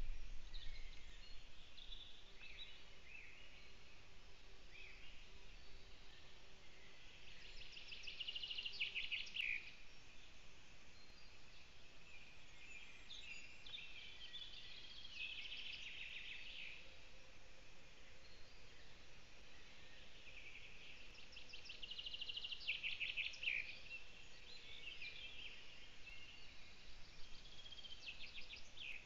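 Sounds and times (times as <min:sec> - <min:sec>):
faint background noise: 0:00.0 - 0:29.0
songbird singing: 0:00.0 - 0:29.0.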